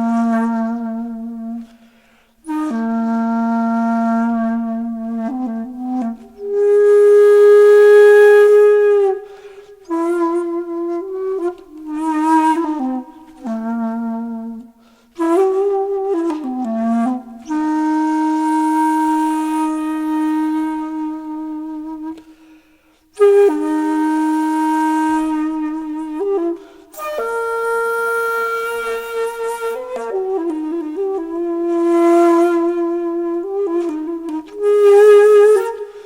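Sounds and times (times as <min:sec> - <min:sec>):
solo flute melody: 0:00.0 - 0:36.0.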